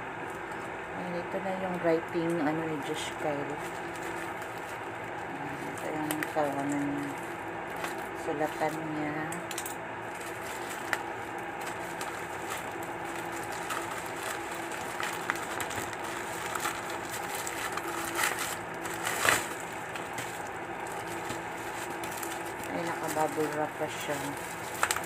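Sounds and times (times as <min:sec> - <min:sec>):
steady low hum: 0:00.0 - 0:25.0
plastic pouch crinkling: 0:02.8 - 0:25.0.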